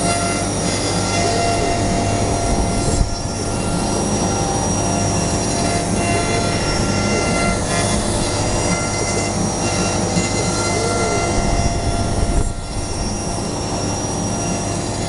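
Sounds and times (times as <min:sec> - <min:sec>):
router spindle whine: 0:00.0 - 0:15.0
stepper motor tones: 0:00.0 - 0:15.0.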